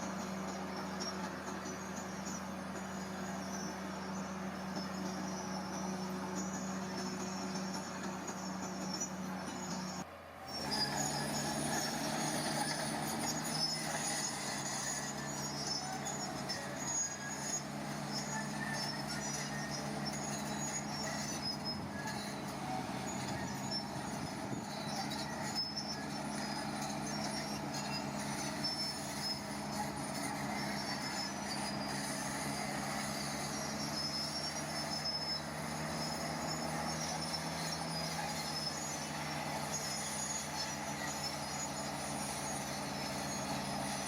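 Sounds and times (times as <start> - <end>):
diesel machine engine droning: 0.0 - 44.0.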